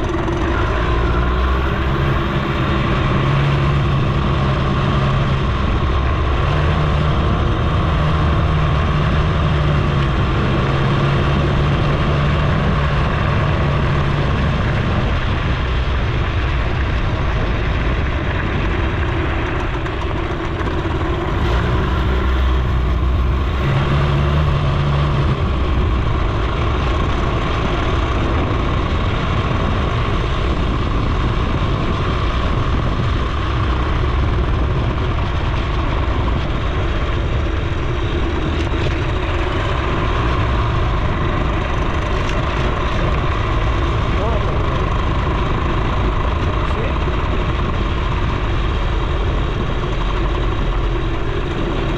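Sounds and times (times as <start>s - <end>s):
moped two-stroke engine running: 0.0s - 8.1s, 11.4s - 51.9s
wind and road noise: 0.0s - 51.9s.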